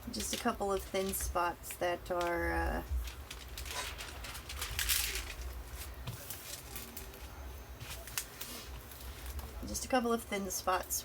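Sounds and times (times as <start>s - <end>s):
plastic film crinkling: 0.0s - 9.8s.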